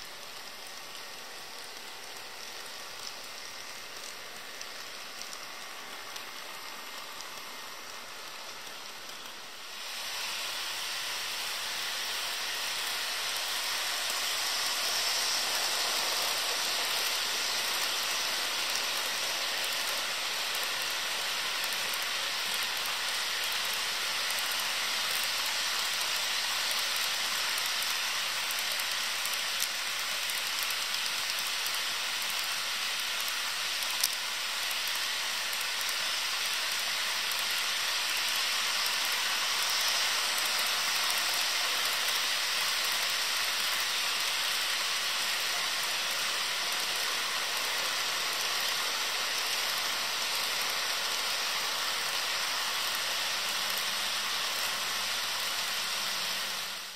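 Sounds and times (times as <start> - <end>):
model train wheels rolling on track: 0.0 - 56.9.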